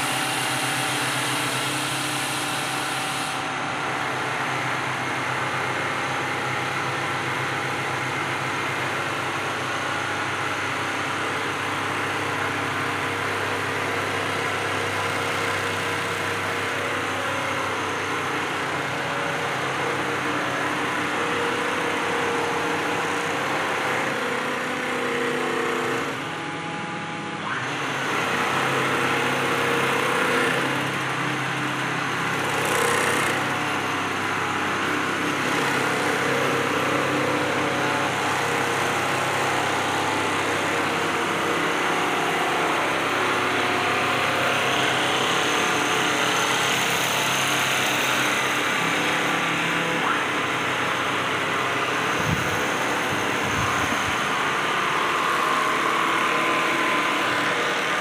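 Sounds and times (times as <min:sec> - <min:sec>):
quilting machines humming: 0:00.0 - 0:58.0.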